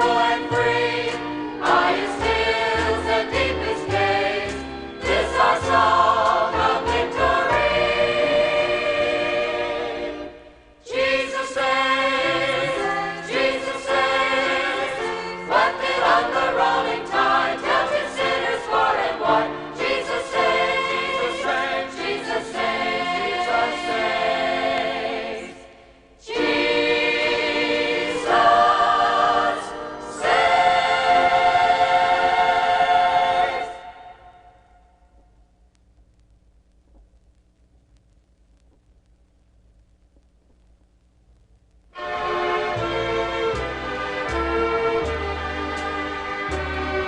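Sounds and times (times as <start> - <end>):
choir singing gospel song: 0.0 - 34.8, 42.0 - 47.0.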